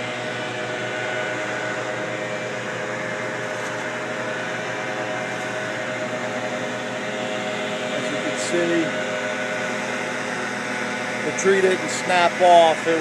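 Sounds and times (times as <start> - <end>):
machine drone with held tones: 0.0 - 13.0.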